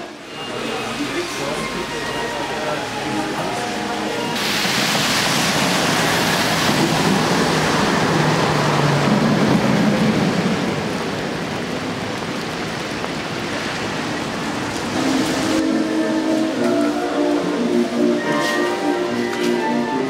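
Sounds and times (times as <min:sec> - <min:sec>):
passing tram low hum: 0:00.0 - 0:20.0
rain and wet road hiss: 0:00.0 - 0:20.0.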